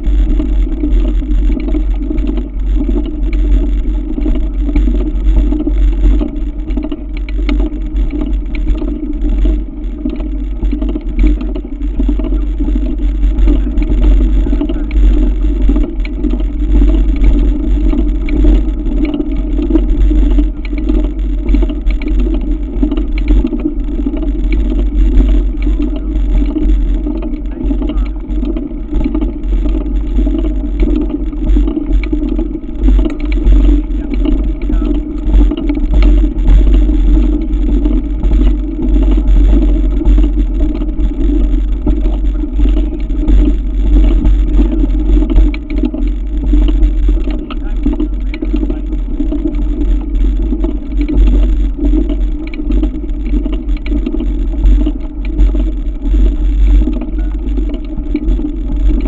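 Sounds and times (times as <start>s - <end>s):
bike rumble: 0.0s - 59.0s.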